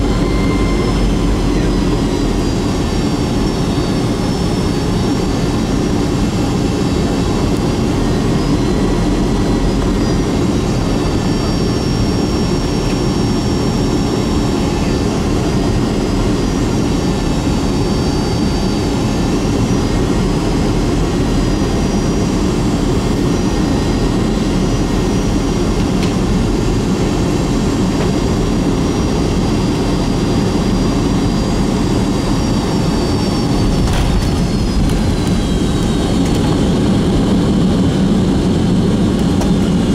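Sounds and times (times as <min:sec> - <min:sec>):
high whining fan tones: 0:00.0 - 0:39.9
jet engine rumble in cabin: 0:00.0 - 0:39.9.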